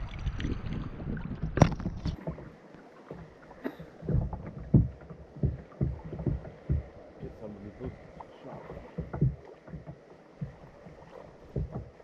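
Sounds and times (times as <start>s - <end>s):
seawater sloshing and splashing: 0.0s - 12.0s.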